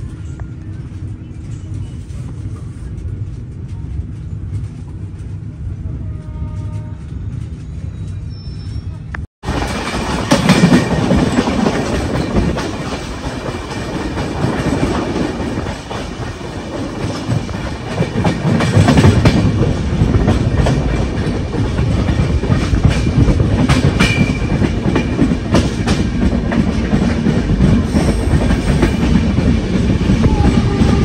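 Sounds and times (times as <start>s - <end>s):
train wheels rumbling: 0.0s - 31.0s
wheels clickety-clack over rail joints: 0.0s - 31.0s.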